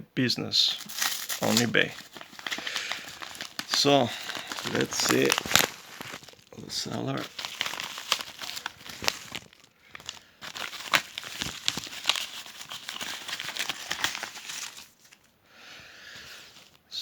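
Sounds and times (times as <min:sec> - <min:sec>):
packaging crinkling and rustling: 0:00.6 - 0:15.3.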